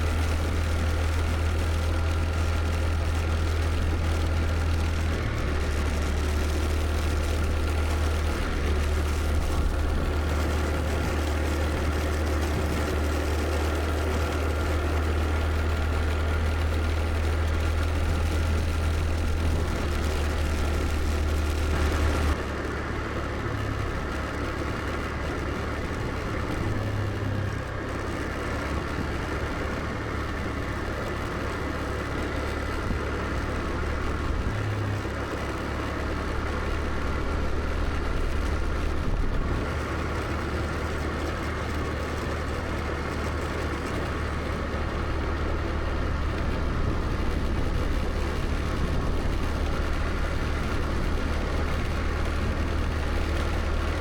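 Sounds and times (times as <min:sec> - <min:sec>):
road noise: 0:00.0 - 0:54.0
scooter engine running: 0:00.0 - 0:54.0.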